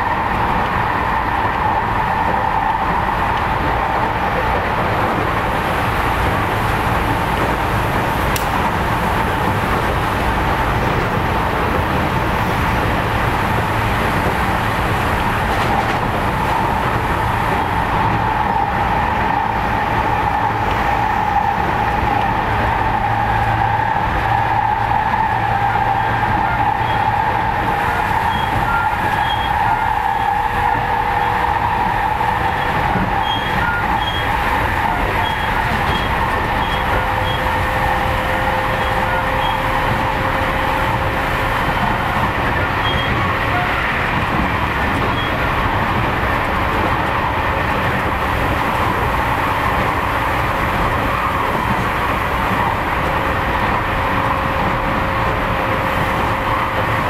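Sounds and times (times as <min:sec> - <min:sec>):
train rolling noise: 0:00.0 - 0:57.0.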